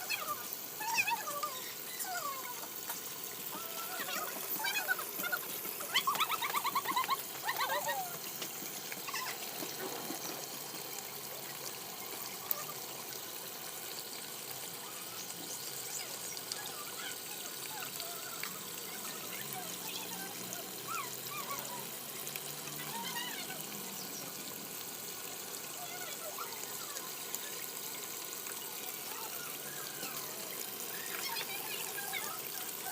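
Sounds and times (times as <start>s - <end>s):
water trickling and splashing: 0.0s - 32.9s.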